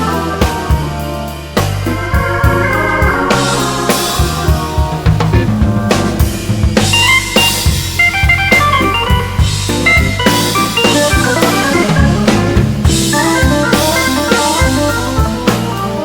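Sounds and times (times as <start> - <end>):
drum kit beat: 0.0 - 16.0
melodic lead line: 0.0 - 16.0.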